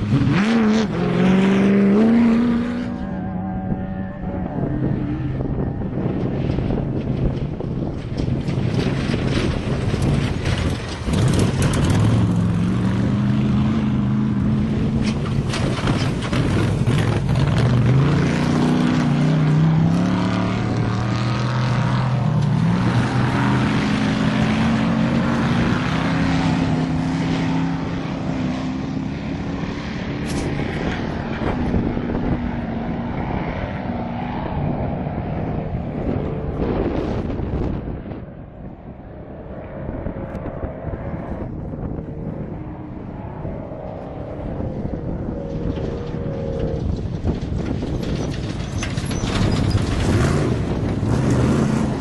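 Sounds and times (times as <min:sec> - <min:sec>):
buggy engine revving: 0:00.0 - 0:38.3, 0:39.8 - 0:52.0.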